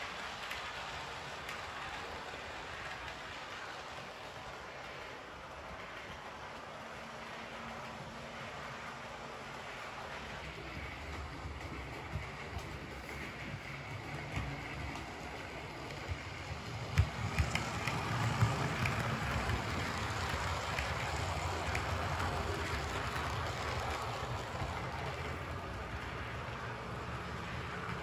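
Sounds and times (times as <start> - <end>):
model train wheels rumbling on rail: 0.0 - 28.0.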